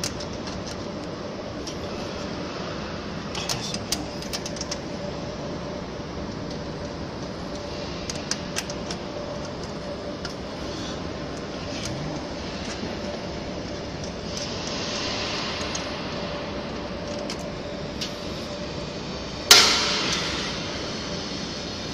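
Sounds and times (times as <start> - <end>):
steady background hum: 0.0 - 21.9.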